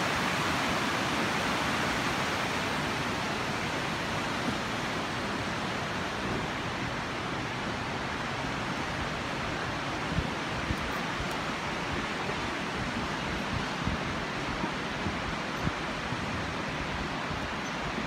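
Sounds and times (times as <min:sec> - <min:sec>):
river rapids rushing: 0:00.0 - 0:18.0.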